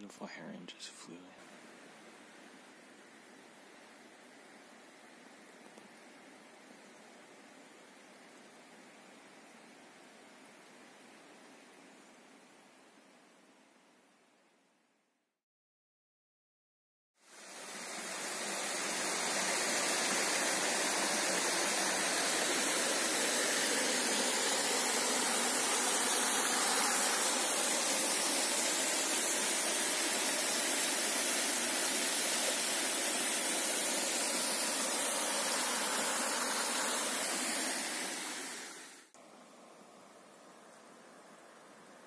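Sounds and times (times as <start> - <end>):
waterfall and creek rushing over rocks: 0.3 - 11.6, 17.3 - 42.0.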